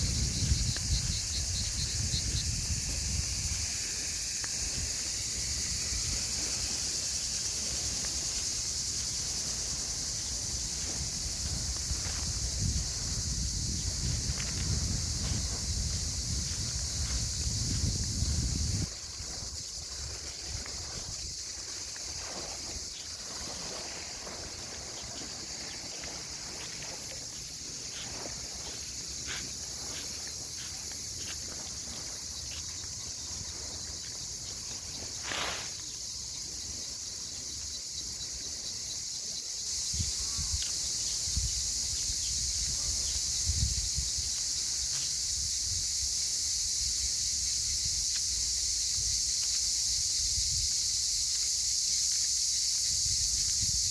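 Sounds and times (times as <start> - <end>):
wind rumbling on microphone: 0.0 - 32.4, 39.6 - 51.2, 52.7 - 53.9
cicadas droning: 0.0 - 53.9.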